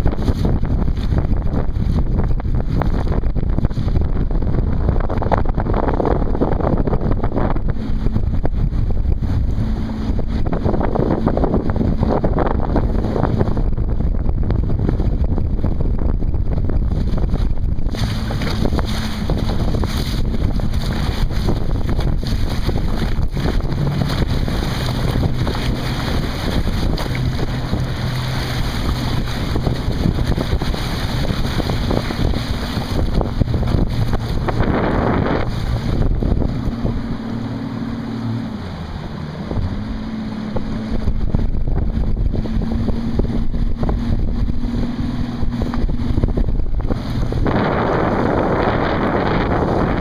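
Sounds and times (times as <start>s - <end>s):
outboard motor running: 0.0s - 50.0s
wind noise on microphone: 0.0s - 50.0s.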